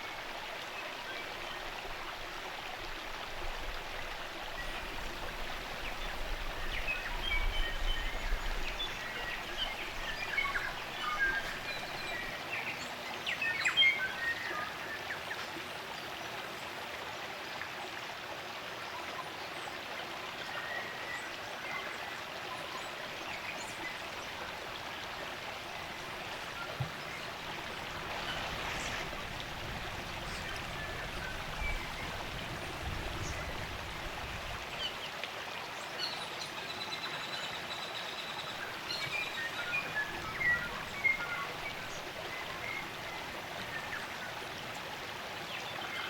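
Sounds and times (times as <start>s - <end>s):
stream rushing: 0.0s - 46.0s.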